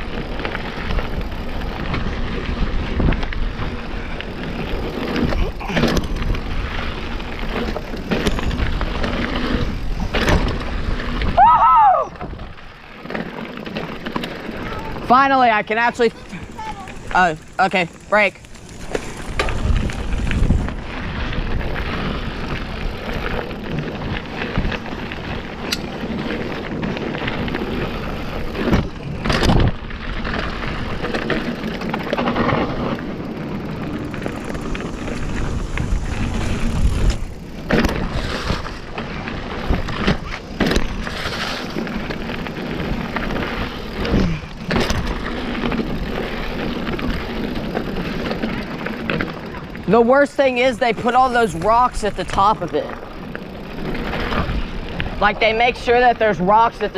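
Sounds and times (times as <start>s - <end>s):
bike knocking and rattling on rocks: 0.0s - 56.9s
bike tyre riding noise: 0.0s - 56.9s.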